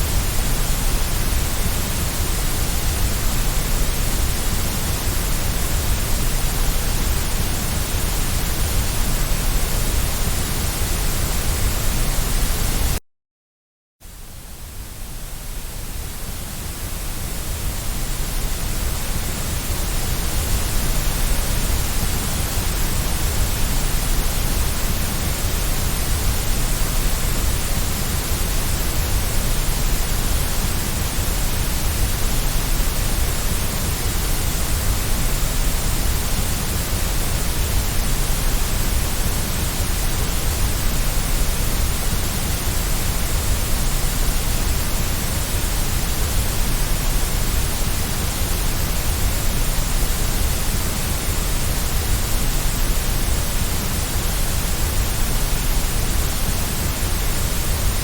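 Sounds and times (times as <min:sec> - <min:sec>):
white noise hiss: 0:00.0 - 0:13.0, 0:14.0 - 0:58.0.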